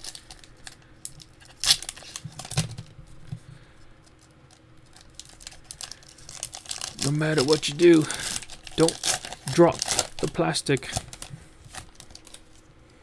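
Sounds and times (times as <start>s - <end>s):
foil wrapper crinkling: 0.0s - 2.9s, 4.0s - 12.7s.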